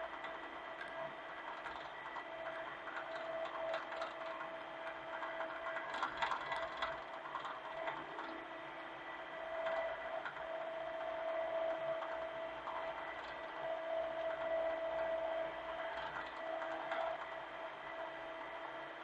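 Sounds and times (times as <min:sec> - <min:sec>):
excavator engine whine: 0:00.0 - 0:19.0.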